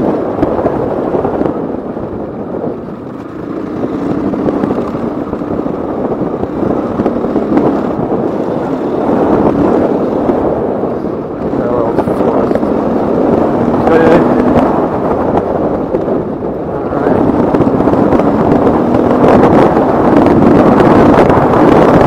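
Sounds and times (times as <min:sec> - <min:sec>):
motorcycle engine running hard: 0:00.0 - 0:22.0.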